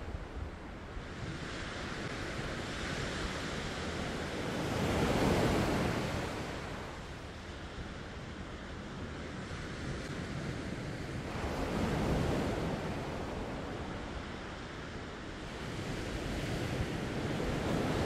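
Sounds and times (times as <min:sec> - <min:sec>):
sea waves washing ashore: 0:00.0 - 0:18.0.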